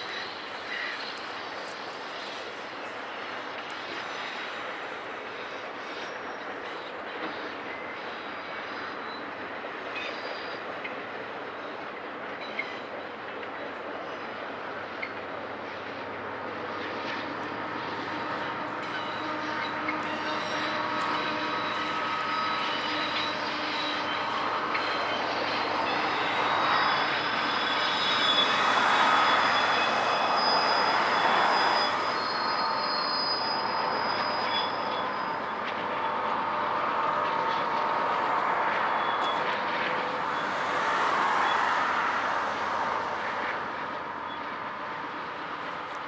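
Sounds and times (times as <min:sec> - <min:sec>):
steel wheels rumbling on rail: 0:00.0 - 0:46.0
high wheel-flange squeals: 0:03.2 - 0:11.1, 0:14.1 - 0:46.0.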